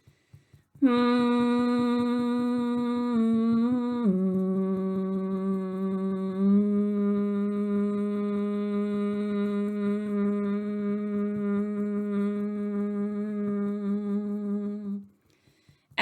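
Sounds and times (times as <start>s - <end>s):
fingertips tapping on chest: 0.0s - 16.0s
woman humming one long note: 0.8s - 15.1s.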